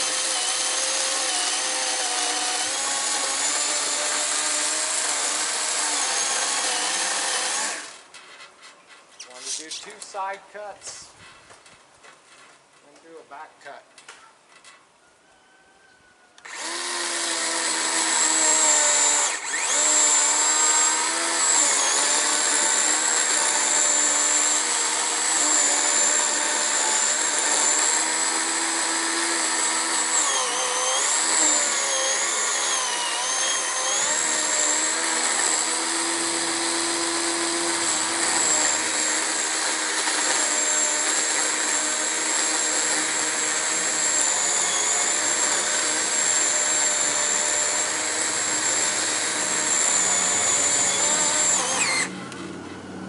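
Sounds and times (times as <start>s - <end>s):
chainsaw cutting tree limb: 0.0s - 8.1s, 16.4s - 52.8s.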